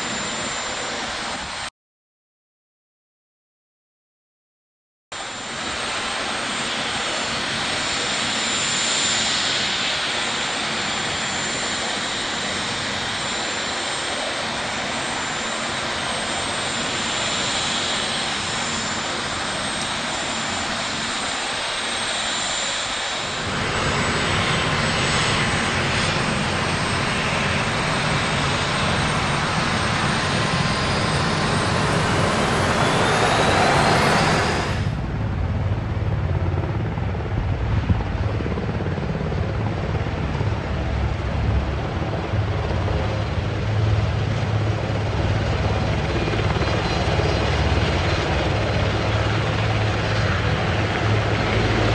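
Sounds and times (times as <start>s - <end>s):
helicopter turbine whine: 0.0s - 1.7s, 5.2s - 51.9s.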